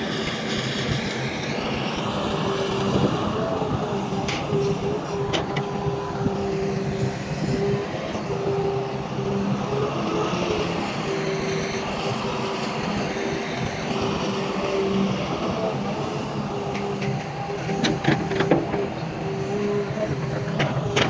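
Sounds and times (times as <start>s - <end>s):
diesel machinery engine drone: 0.0s - 21.0s
mid-pitched whine: 0.0s - 21.0s.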